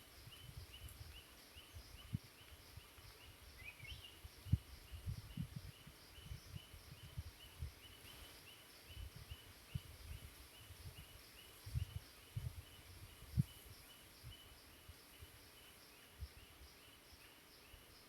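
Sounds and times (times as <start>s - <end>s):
faint hiss: 0.0s - 18.0s.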